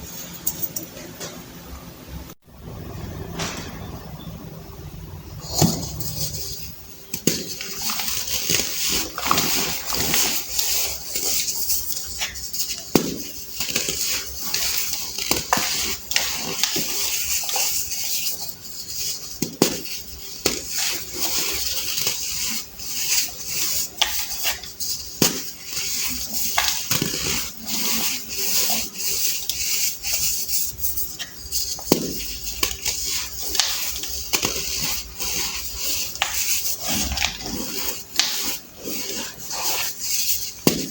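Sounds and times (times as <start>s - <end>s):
baking soda crunching and crackling: 5.4s - 40.9s.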